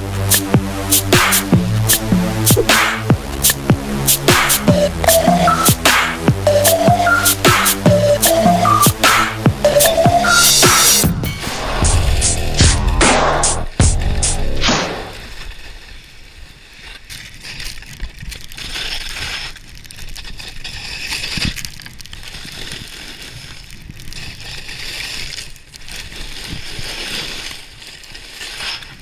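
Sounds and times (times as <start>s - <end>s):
skis scraping through snow: 0.0s - 12.1s, 13.6s - 29.0s.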